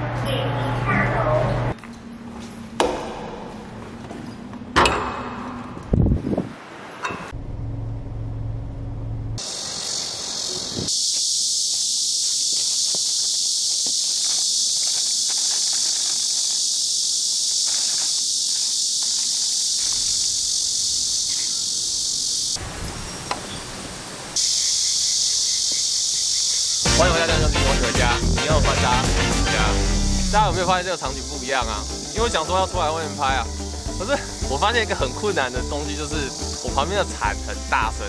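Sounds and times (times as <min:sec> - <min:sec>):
cicadas buzzing: 0:01.7 - 0:07.4, 0:09.2 - 0:38.0.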